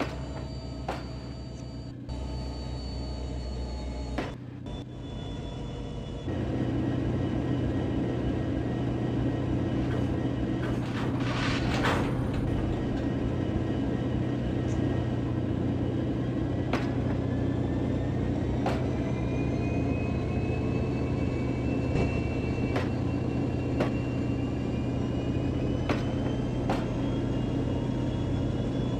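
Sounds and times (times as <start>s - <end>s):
passenger train rumbling past: 4.7s - 28.9s.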